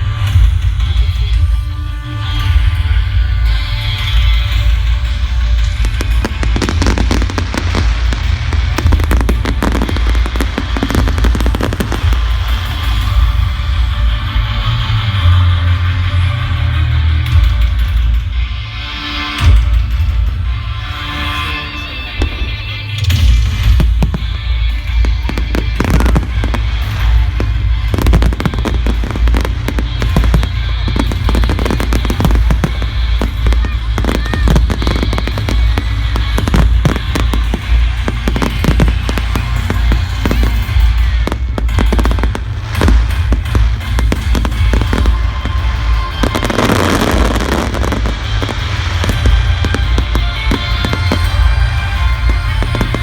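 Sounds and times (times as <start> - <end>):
fireworks crackling and banging: 0.0 - 53.0
music with heavy bass: 0.0 - 53.0.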